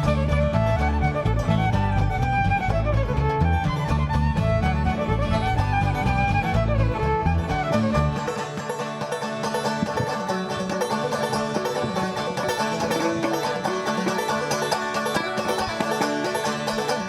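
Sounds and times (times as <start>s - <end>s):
acoustic folk music: 0.0s - 17.0s
banjo picking: 0.0s - 17.0s.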